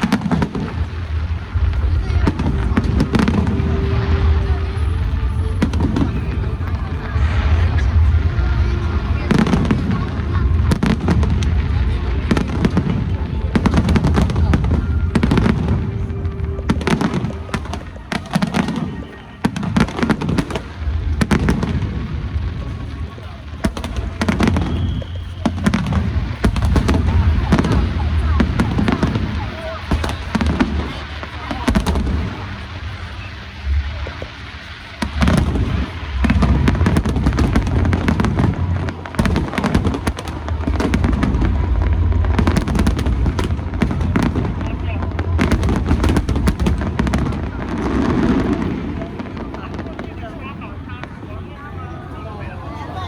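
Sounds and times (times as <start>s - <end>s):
low rumble of bursts: 0.0s - 51.5s
fireworks bangs and crackles: 0.0s - 53.0s.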